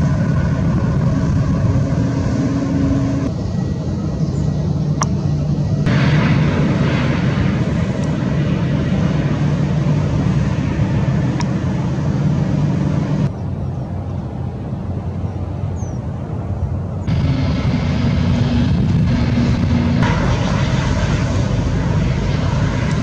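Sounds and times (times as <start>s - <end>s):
jet airliner engine noise: 0.0s - 23.0s
steady engine hum: 0.0s - 23.0s.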